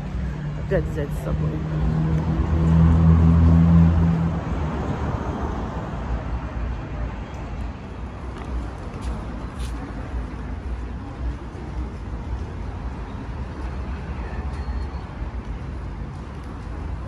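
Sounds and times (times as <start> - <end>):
road traffic noise: 0.0 - 17.0
vehicle engine hum: 0.0 - 17.0.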